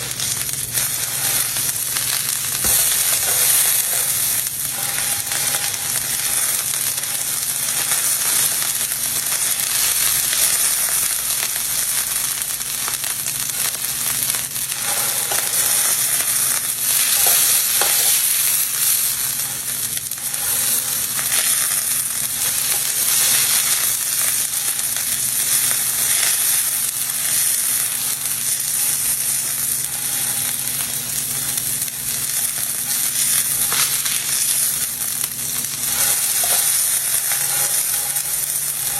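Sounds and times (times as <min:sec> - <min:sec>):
steak sizzling on a griddle: 0:00.0 - 0:38.9.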